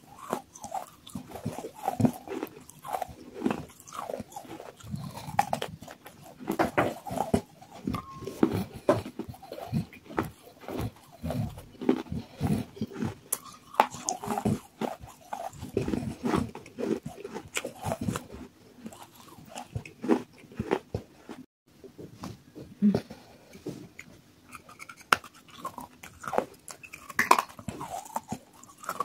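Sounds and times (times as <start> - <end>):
wet mouth sounds: 0.0 - 21.4, 24.0 - 29.0
crunchy chewing: 0.0 - 21.5, 23.4 - 29.0.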